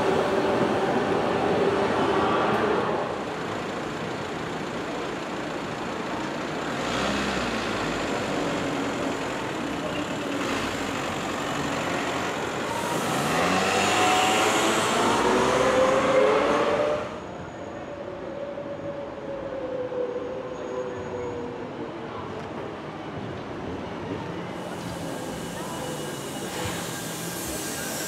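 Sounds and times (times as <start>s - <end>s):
road traffic: 0.0s - 28.0s
tram wheels on rails: 0.0s - 28.0s.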